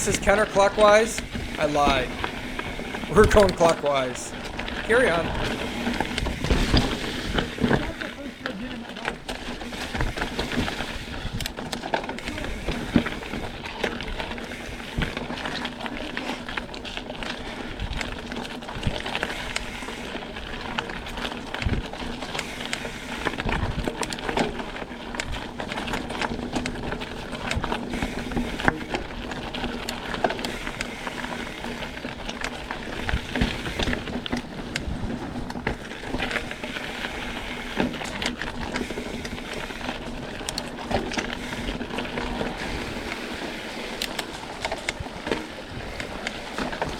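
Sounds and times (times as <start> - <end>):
tyre and wind noise: 0.0 - 46.9
bike knocking and rattling: 4.3 - 46.9.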